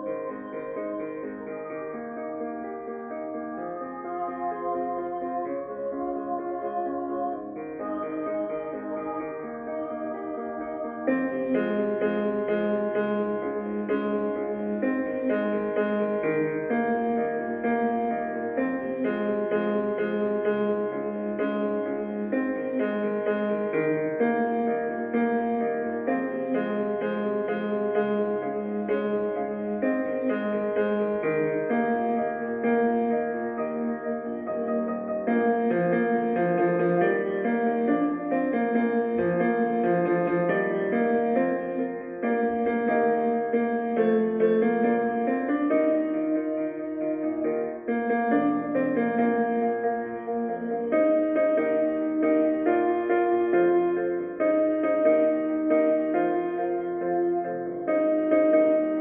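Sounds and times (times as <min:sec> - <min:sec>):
piano playing slow chords: 0:00.0 - 0:59.0.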